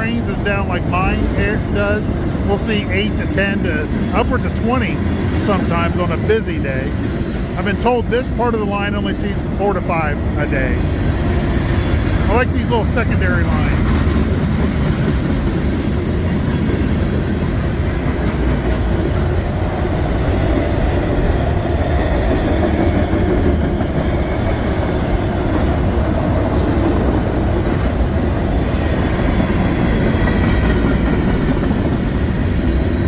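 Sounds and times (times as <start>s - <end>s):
steel wheels on rails: 0.0s - 33.0s.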